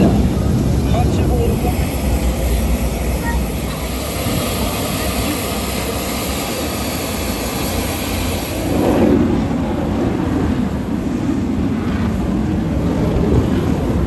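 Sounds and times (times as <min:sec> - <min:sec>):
plane flying past: 0:00.0 - 0:14.0.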